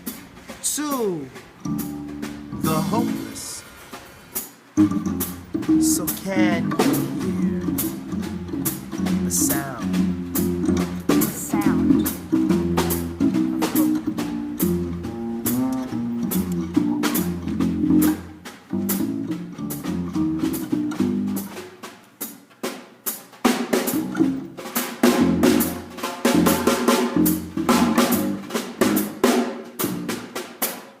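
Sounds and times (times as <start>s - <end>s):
band music with drum kit: 0.0s - 31.0s.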